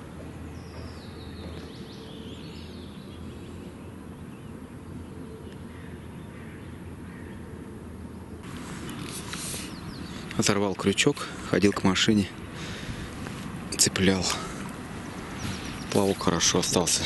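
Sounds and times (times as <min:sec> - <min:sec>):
low outdoor background rumble: 0:00.0 - 0:17.0
small birds chirping and trilling: 0:00.0 - 0:17.0.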